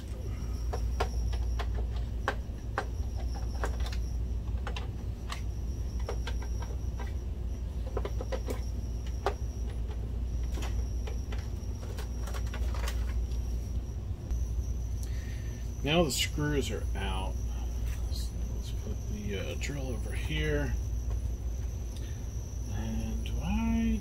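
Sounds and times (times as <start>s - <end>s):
faint high whine: 0.0s - 24.0s
steady low hum: 0.0s - 24.0s.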